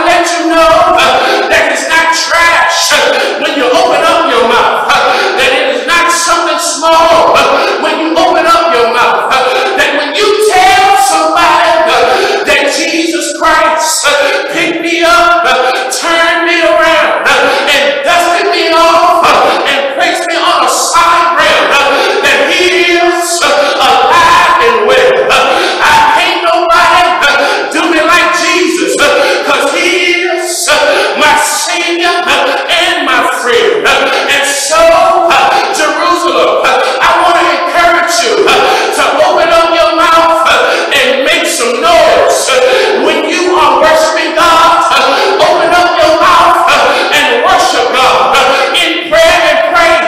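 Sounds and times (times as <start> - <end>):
man singing into a microphone: 0.0 - 50.0.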